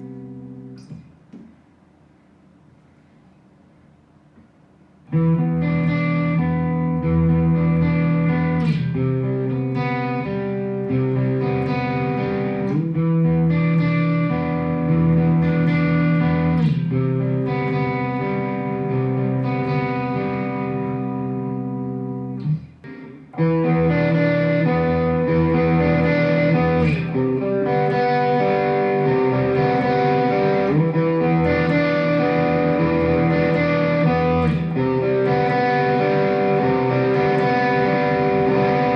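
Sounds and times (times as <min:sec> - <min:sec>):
electric guitar chords ringing: 0:00.0 - 0:01.5, 0:05.0 - 0:38.9.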